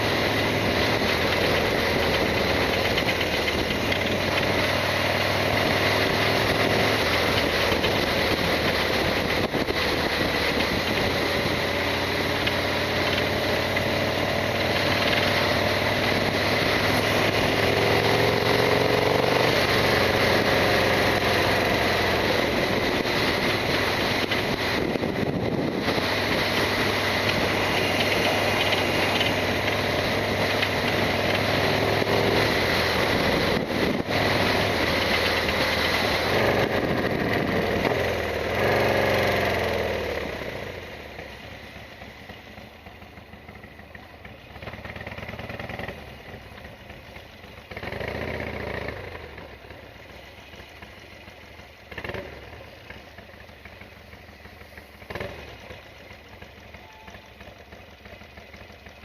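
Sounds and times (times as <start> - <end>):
motorcycle engine: 0.0 - 59.0
wind: 0.0 - 59.0.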